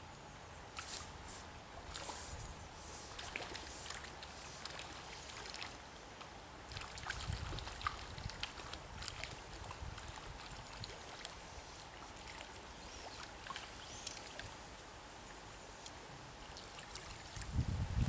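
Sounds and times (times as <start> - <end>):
river water sloshing: 0.7 - 18.0.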